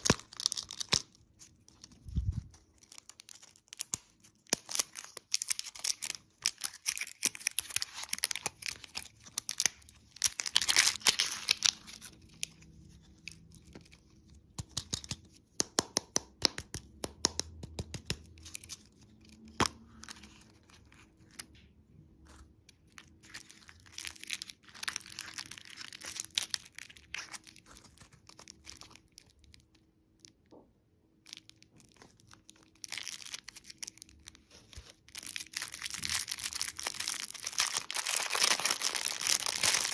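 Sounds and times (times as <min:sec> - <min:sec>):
candy wrapper crinkling: 0:00.0 - 0:15.6, 0:16.4 - 0:30.5, 0:31.1 - 0:39.9.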